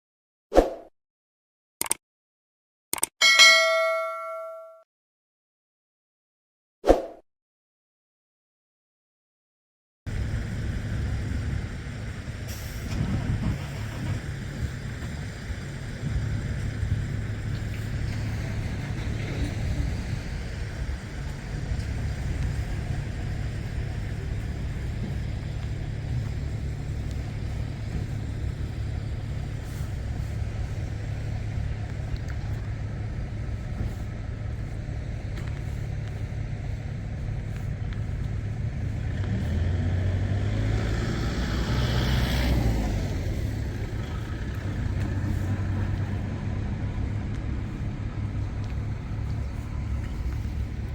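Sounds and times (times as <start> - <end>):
harvester engine droning: 10.1 - 50.9.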